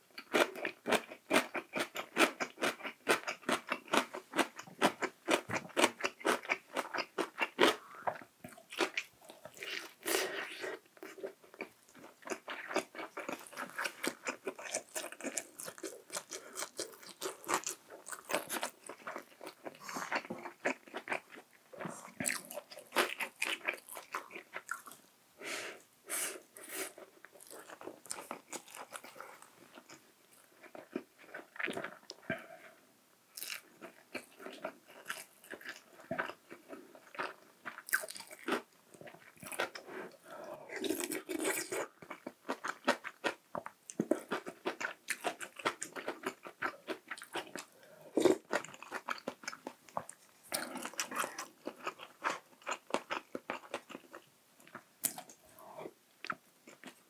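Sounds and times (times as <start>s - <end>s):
person chewing food crunchily: 0.1s - 25.0s, 26.7s - 32.7s, 33.4s - 57.0s.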